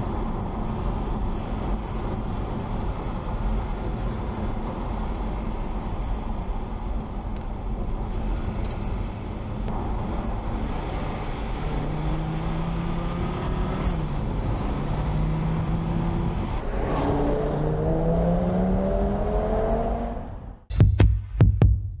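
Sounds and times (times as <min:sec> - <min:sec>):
car engine driving: 0:00.0 - 0:20.7
road and tyre rumble: 0:00.0 - 0:20.7.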